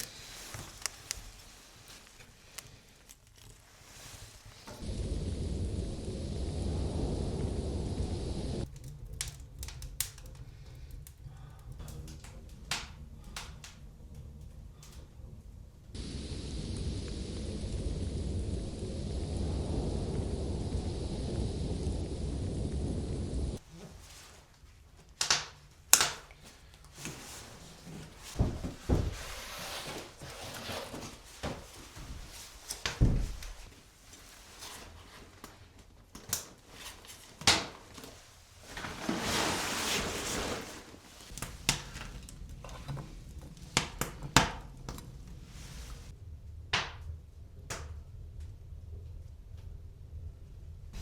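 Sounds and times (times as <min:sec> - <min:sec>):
rustling: 0:00.0 - 0:25.2, 0:26.3 - 0:35.9, 0:36.5 - 0:46.2.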